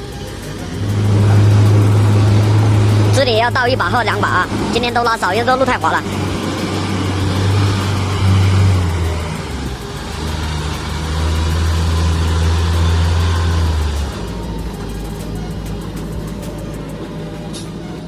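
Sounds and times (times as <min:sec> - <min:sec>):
truck diesel engine under load: 0:00.0 - 0:18.0.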